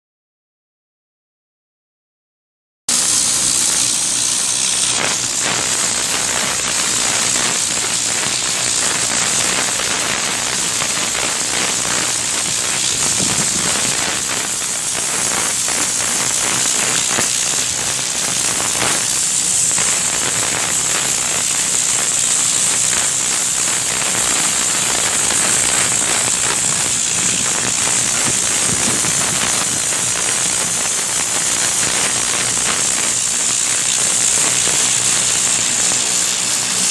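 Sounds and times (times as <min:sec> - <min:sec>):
pressure washer spraying water: 0:02.9 - 0:36.9.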